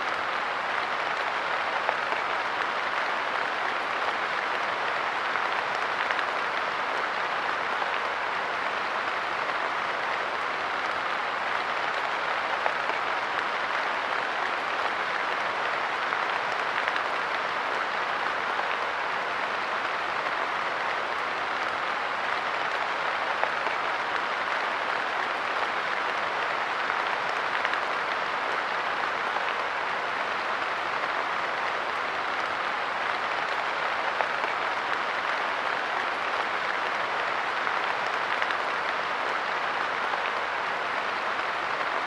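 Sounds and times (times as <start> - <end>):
light rain patter: 0.0 - 42.0.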